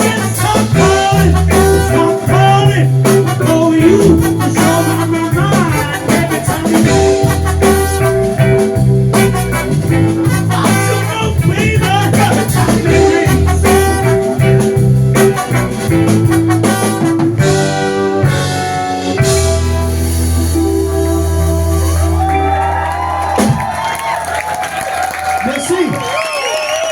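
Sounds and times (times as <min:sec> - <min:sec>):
electric guitar: 0:00.0 - 0:23.9
live band playing slow song: 0:00.0 - 0:25.8.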